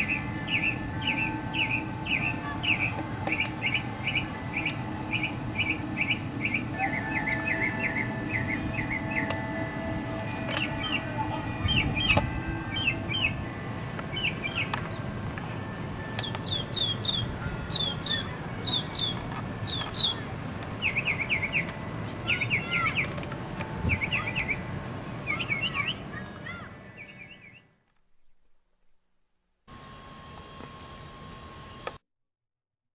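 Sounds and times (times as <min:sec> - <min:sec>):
birds chirping: 0:00.0 - 0:28.4, 0:29.8 - 0:32.0
low steady background noise: 0:00.0 - 0:32.0.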